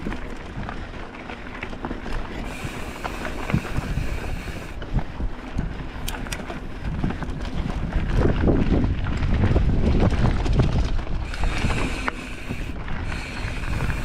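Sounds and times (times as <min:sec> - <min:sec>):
bike rumbling on dirt trail: 0:00.0 - 0:14.0
wind buffeting microphone: 0:00.0 - 0:14.0.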